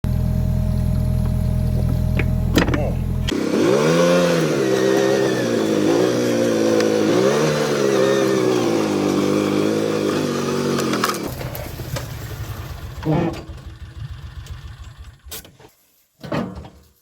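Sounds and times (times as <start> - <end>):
engine revving: 1.7 - 15.4.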